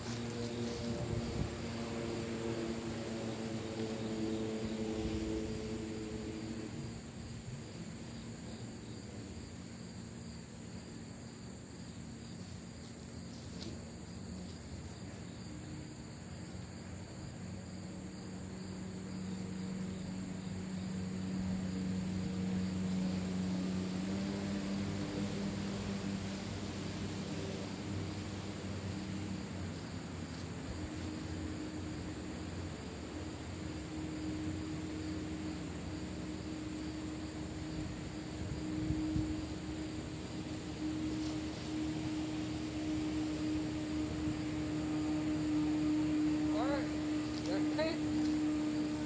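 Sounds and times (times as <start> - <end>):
crickets and insects droning: 0.0 - 49.0
distant engine hum: 0.0 - 49.0.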